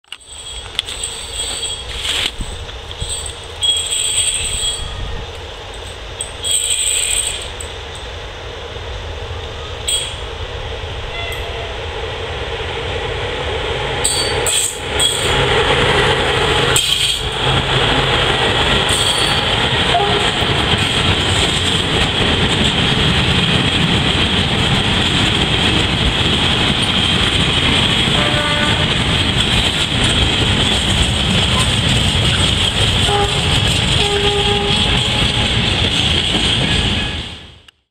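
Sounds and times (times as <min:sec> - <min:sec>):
wheels rumbling on rails: 0:00.0 - 0:37.9
freight train passing: 0:00.1 - 0:37.8.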